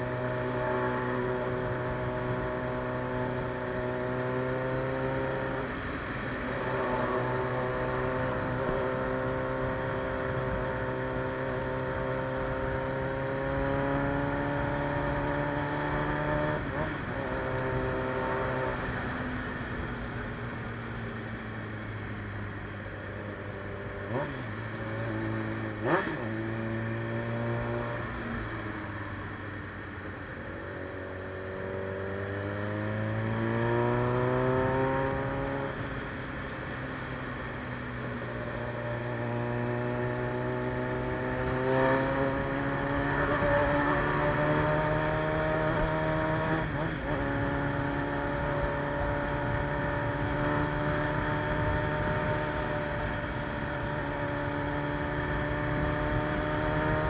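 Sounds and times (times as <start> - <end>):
motorcycle engine revving: 0.0 - 21.8, 22.6 - 29.8, 30.5 - 57.0.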